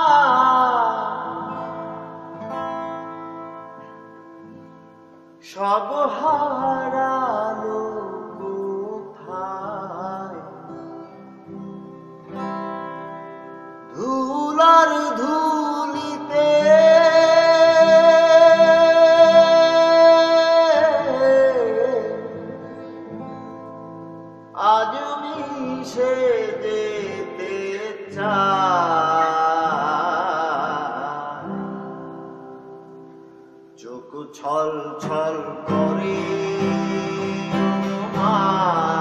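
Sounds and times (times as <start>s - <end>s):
man singing: 0.0s - 2.8s, 5.4s - 11.4s, 13.8s - 23.4s, 24.2s - 32.8s, 33.8s - 39.0s
acoustic guitar: 0.0s - 39.0s.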